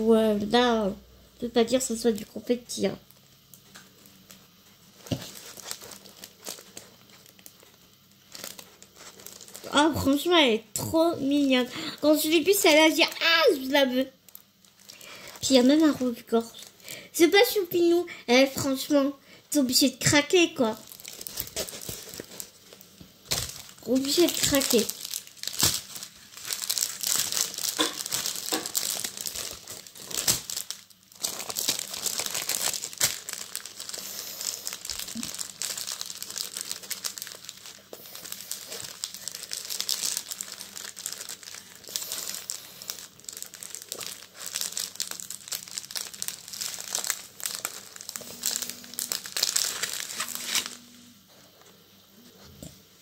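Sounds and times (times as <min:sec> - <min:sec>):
plastic packaging crinkling: 0:01.4 - 0:19.0, 0:19.6 - 0:51.7.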